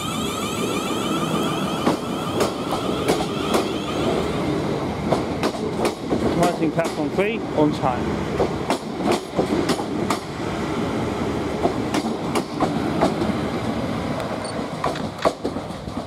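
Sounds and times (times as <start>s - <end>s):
train rumbling past: 0.0s - 16.0s
train wheels clicking over track: 0.1s - 7.4s, 8.3s - 10.4s, 11.5s - 16.0s.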